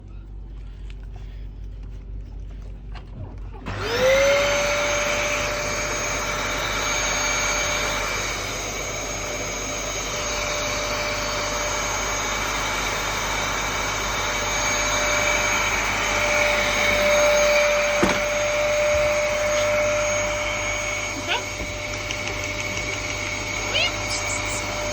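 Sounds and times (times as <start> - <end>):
vacuum cleaner running: 3.6 - 24.9.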